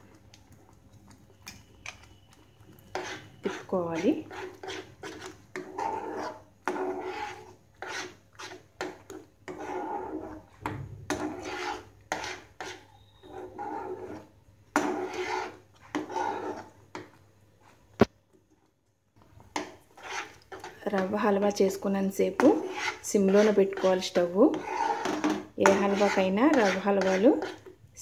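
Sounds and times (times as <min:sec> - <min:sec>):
metal ladle scraping a pan: 0:01.6 - 0:17.1, 0:19.5 - 0:27.8.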